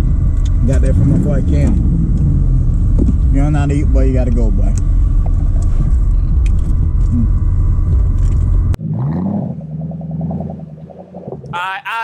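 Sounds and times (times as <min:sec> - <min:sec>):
engine revving: 0:00.0 - 0:11.6
car rumbling: 0:00.0 - 0:12.0.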